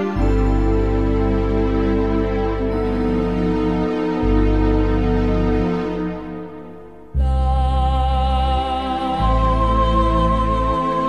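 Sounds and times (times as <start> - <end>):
deep bass note: 0.0 - 10.8
soft instrumental music: 0.0 - 11.0.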